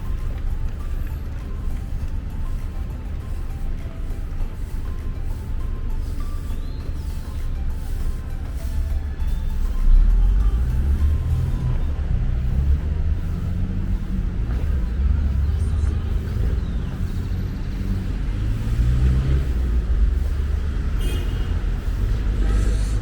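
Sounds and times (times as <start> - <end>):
traffic engine rumble: 0.0 - 23.0.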